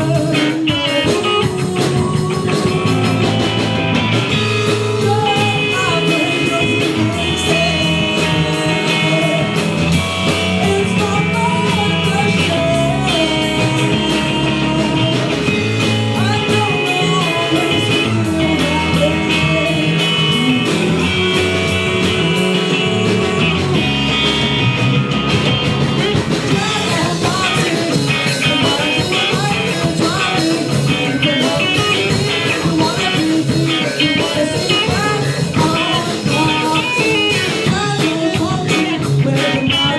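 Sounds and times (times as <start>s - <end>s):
person singing: 0.0s - 24.7s, 26.0s - 39.9s
live rock band: 0.0s - 39.9s.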